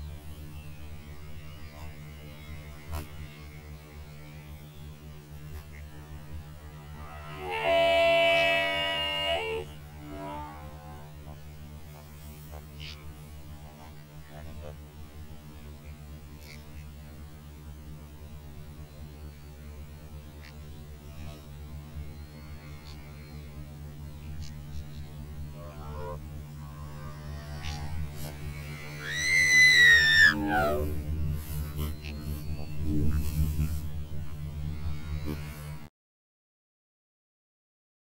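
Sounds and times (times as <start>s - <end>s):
low electrical hum: 0.0s - 35.8s.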